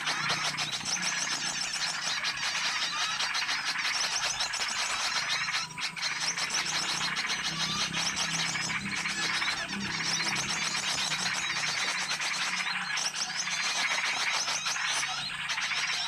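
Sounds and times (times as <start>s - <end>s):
small songbirds chirping chorus: 0.0s - 16.0s.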